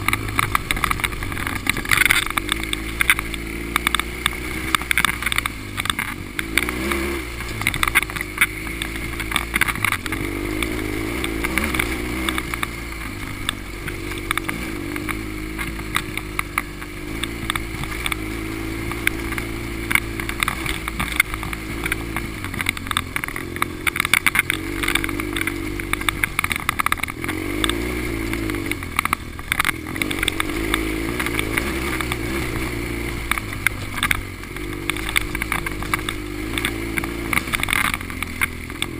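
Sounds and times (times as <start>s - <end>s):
bike knocking over bumps: 0.0s - 38.9s
motorcycle engine revving: 0.0s - 38.9s.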